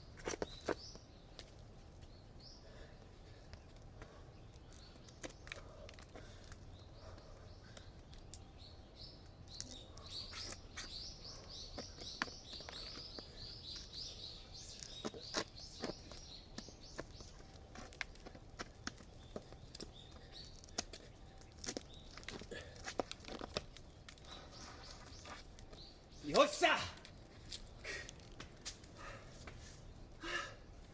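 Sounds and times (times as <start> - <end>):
small birds chirping: 0.0 - 28.2
faint outdoor background: 0.0 - 30.9.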